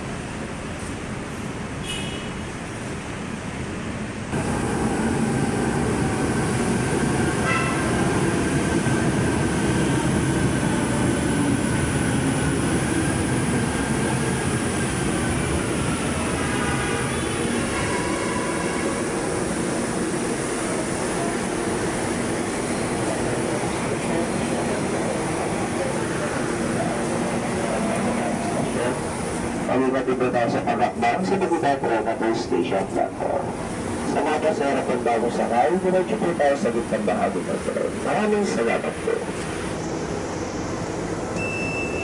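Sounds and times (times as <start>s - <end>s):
metro train rumbling on rails: 0.0s - 42.0s.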